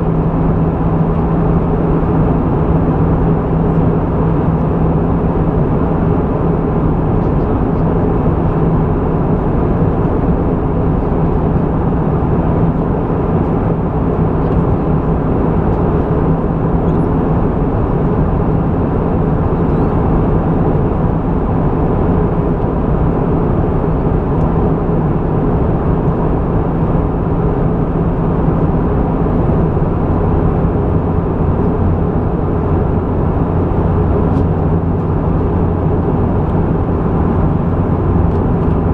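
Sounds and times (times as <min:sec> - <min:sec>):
airplane cabin engine drone: 0:00.0 - 0:38.9
constant low tone: 0:00.0 - 0:38.9.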